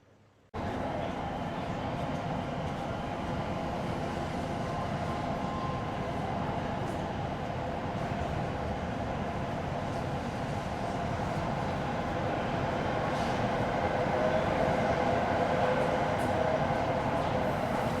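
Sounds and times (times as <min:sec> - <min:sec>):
train rumbling and humming: 0:00.6 - 0:18.0.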